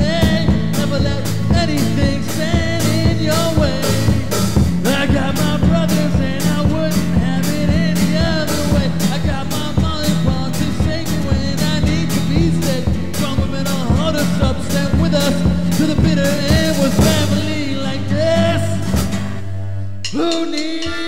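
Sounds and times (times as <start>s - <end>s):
rock and roll song: 0.0s - 21.0s.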